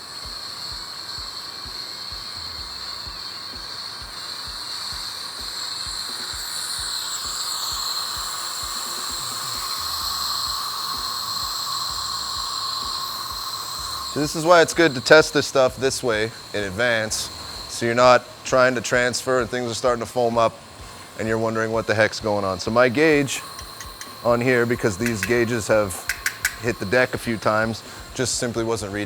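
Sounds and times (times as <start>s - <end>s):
hiss of gas through valve: 0.0s - 29.0s.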